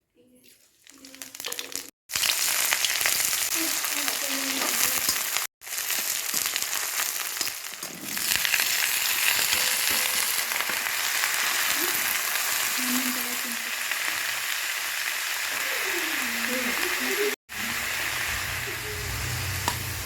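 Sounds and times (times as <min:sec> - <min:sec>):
food frying in hot oil: 0:01.0 - 0:20.0.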